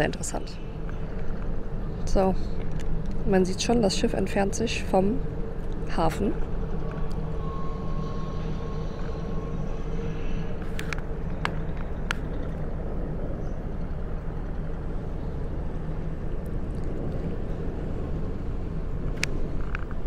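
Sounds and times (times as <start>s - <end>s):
ship machinery rumble: 0.0s - 20.0s.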